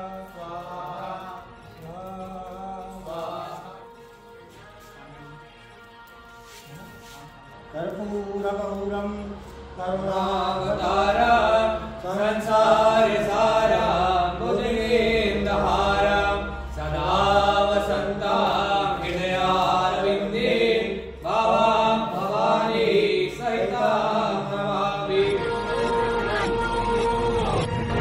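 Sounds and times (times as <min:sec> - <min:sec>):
person chanting mantras: 0:00.0 - 0:27.4.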